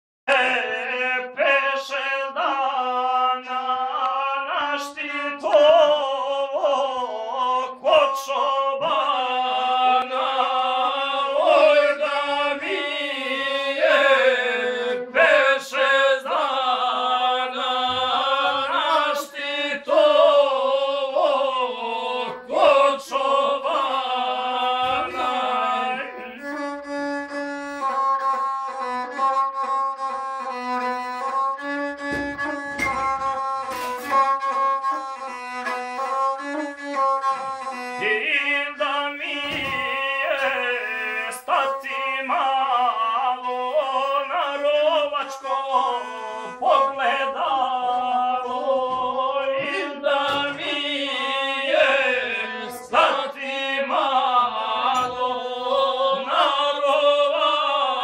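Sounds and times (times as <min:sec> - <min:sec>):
bowed single-string fiddle melody: 0:00.3 - 0:58.0.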